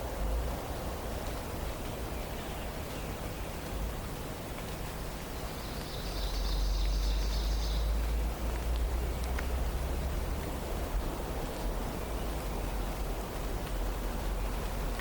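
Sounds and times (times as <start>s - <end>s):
forest background hiss: 0.0s - 15.0s.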